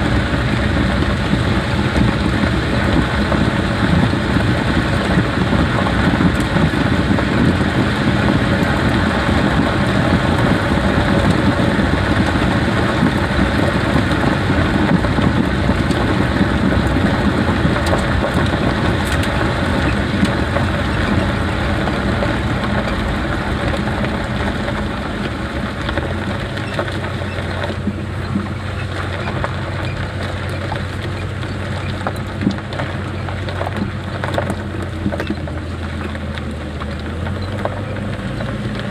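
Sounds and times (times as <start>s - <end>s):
low engine hum: 0.0s - 38.9s
tyre and road noise: 0.0s - 38.9s.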